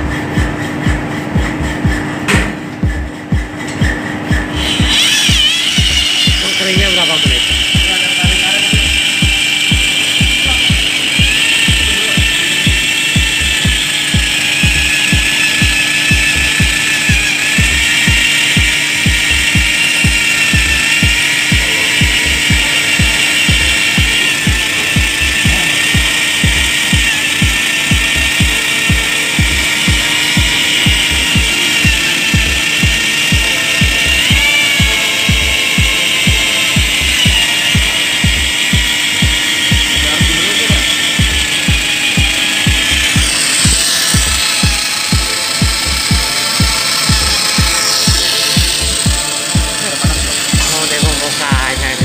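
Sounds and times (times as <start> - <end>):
electric drill mixing paddle whine: 0.0 - 52.0.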